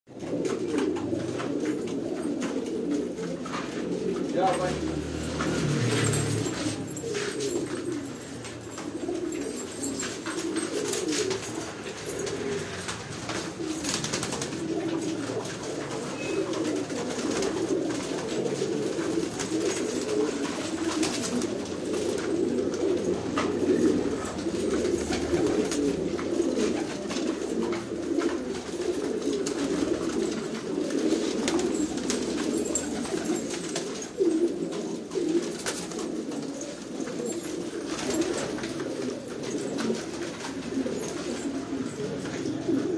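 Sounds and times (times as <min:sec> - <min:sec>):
pigeons cooing: 0:00.1 - 0:42.9.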